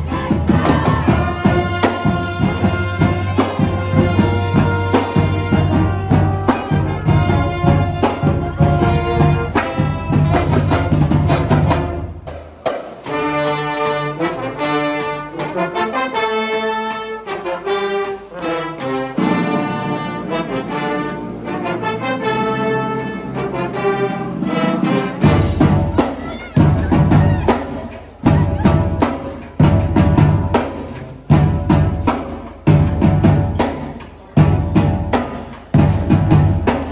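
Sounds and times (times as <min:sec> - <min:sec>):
brass melody of held notes: 0:00.0 - 0:12.2, 0:13.0 - 0:31.9
pep band playing: 0:00.0 - 0:36.9.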